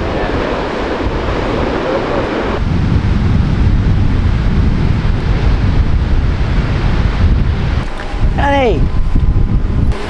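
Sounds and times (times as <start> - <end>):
ocean surf on beach: 0.0 - 10.0
wind buffeting microphone: 0.0 - 10.0.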